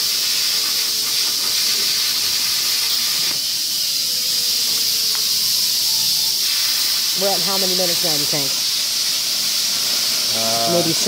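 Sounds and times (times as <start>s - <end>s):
plasma cutter hissing: 0.0s - 11.0s.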